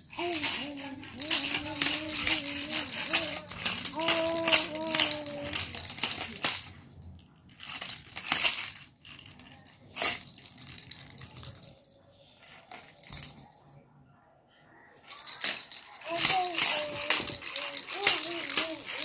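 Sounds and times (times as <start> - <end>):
baby rattle shaking: 0.0 - 13.5, 15.0 - 19.0.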